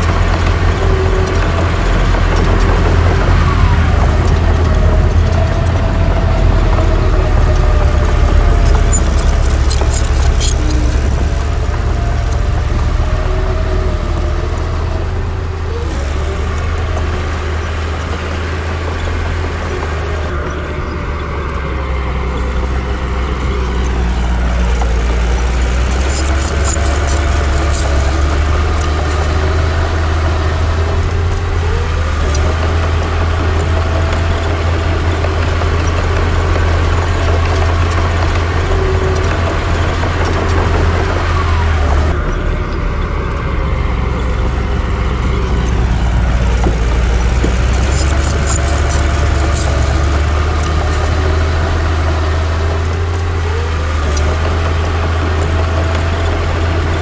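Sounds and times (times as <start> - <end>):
sharp metallic clicking: 0.0 - 15.0, 22.2 - 57.0
bulldozer diesel engine: 0.0 - 57.0.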